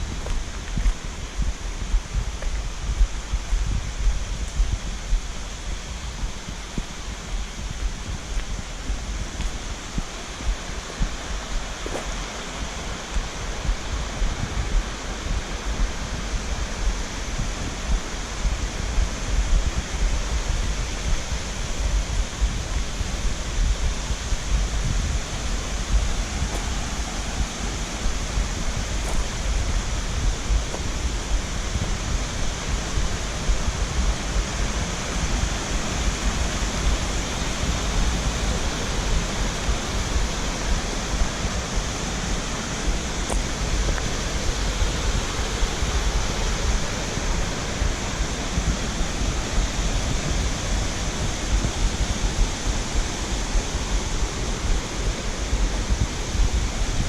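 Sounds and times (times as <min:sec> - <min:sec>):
deep rumble: 0:00.0 - 0:57.0
rushing mountain stream: 0:00.0 - 0:57.0.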